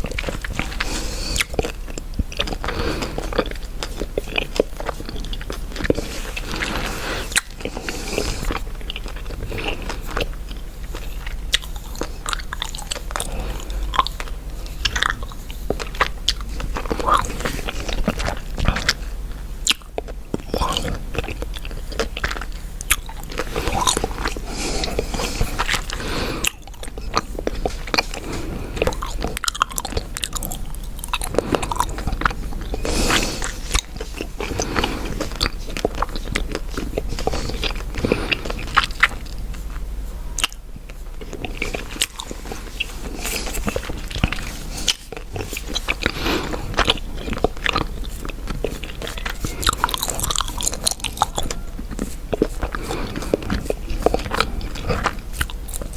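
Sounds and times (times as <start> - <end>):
gum chewing mouth clicks: 0.0 - 55.9.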